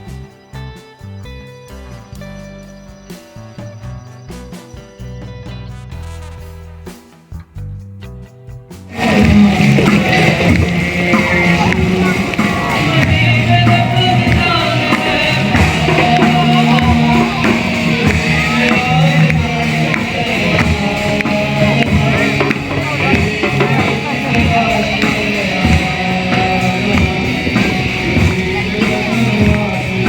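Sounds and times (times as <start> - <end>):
loud music with drum beat: 0.0 - 30.0.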